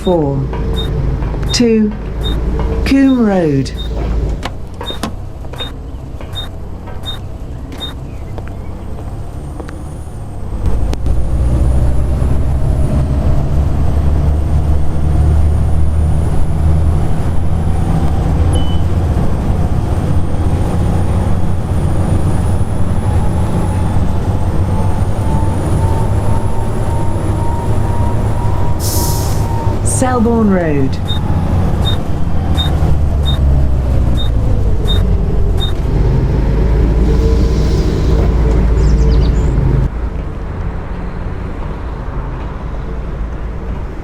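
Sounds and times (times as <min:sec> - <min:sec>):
bus engine accelerating: 0:00.0 - 0:44.0.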